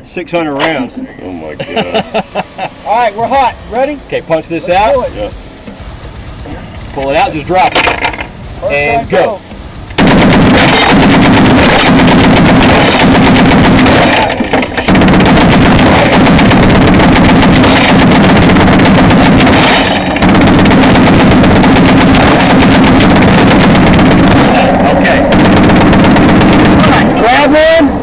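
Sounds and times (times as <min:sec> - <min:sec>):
heavy machine gun bursts: 0:04.7 - 0:28.0.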